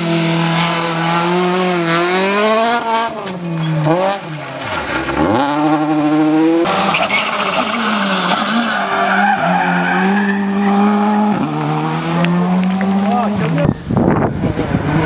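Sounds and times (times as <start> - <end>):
rally car engine revving: 0.0 - 15.0
tyres skidding: 0.0 - 15.0.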